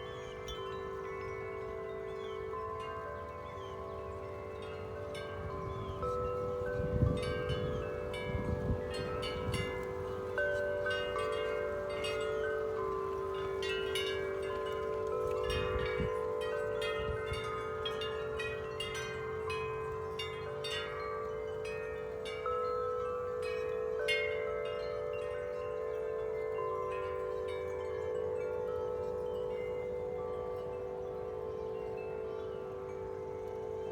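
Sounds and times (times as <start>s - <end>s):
wind chimes ringing: 0.0s - 33.9s.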